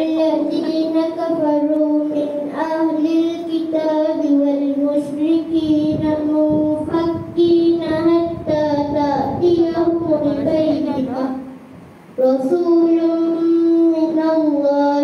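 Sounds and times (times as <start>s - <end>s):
child chanting melodically: 0.0s - 15.0s.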